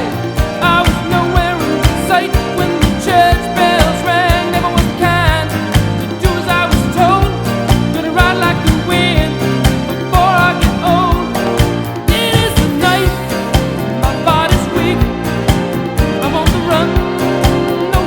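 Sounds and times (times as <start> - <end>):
song with singing voice: 0.0 - 18.0.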